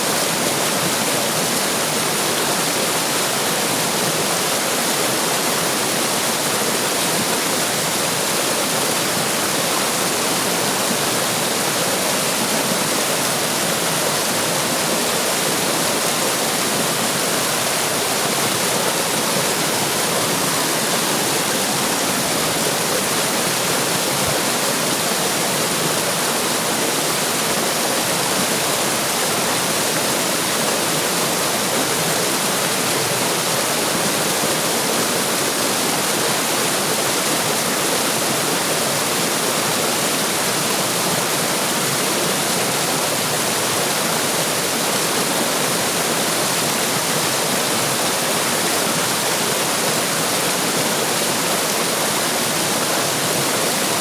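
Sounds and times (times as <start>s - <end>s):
water rushing in stream: 0.0s - 54.0s.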